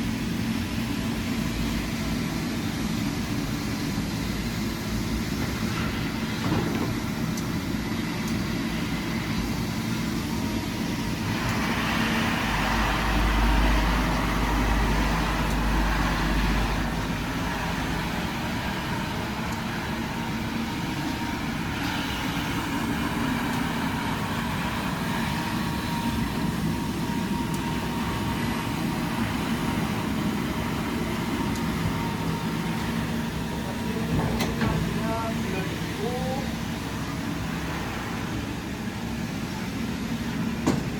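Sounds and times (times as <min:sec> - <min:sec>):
floor scrubber motor drone: 0:00.0 - 0:40.6.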